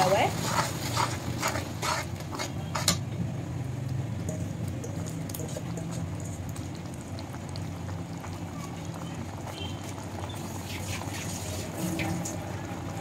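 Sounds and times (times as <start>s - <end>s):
spoon stirring in a pan: 0.0s - 3.2s, 3.9s - 12.4s
masala frying with small pops: 0.0s - 13.0s.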